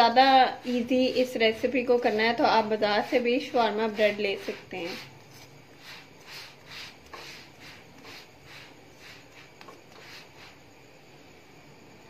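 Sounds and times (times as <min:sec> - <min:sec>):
spatula scraping flatbread on pan: 0:00.0 - 0:10.6.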